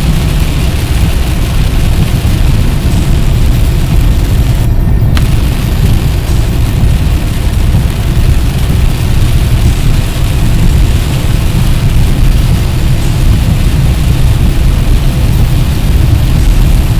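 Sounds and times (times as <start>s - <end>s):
rain and tyre spray hiss: 0.0s - 16.9s
vehicle low rumble: 0.0s - 16.9s.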